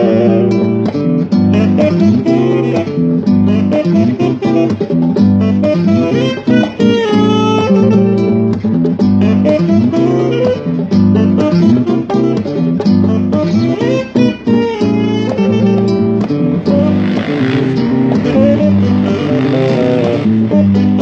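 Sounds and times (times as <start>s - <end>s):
guitar accompaniment: 0.0s - 21.0s
saxophone melody: 0.0s - 21.0s
steady drum beat: 0.0s - 21.0s.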